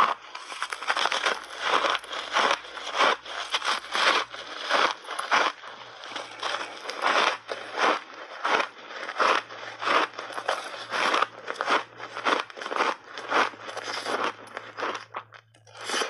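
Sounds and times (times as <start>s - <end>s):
ice crunching being chewed: 0.0s - 16.0s.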